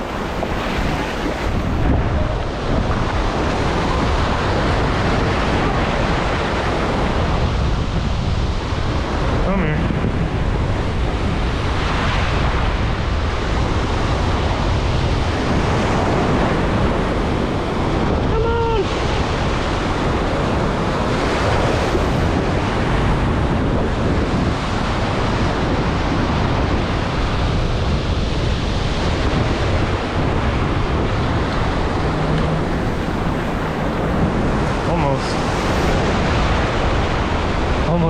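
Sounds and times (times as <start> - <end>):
ocean surf: 0.0 - 38.0
wind buffeting microphone: 0.0 - 38.0.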